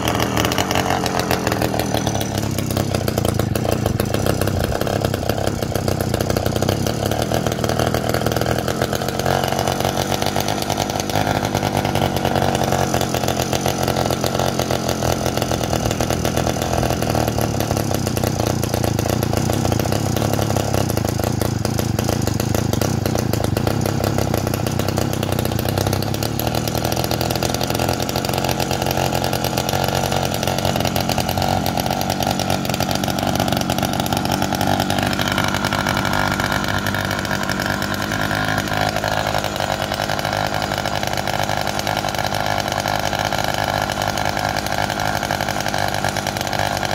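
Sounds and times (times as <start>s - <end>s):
small two-stroke engine idling: 0.0s - 46.9s.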